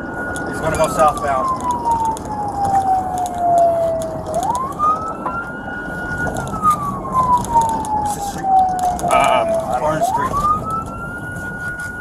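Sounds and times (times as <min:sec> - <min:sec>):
car engine and road noise: 0:00.0 - 0:12.0
police siren wailing: 0:00.0 - 0:12.0.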